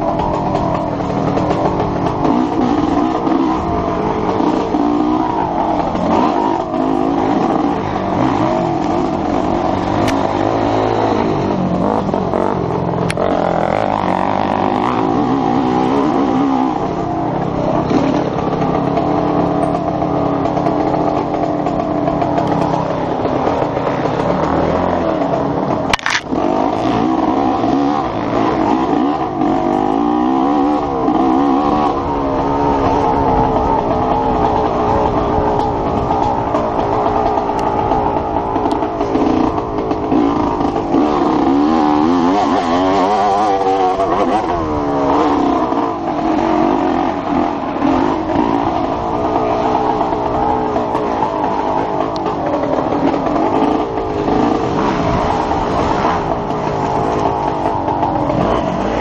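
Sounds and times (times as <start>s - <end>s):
motorcycle engine revving: 0.0s - 59.0s
rush of wind noise: 0.0s - 59.0s.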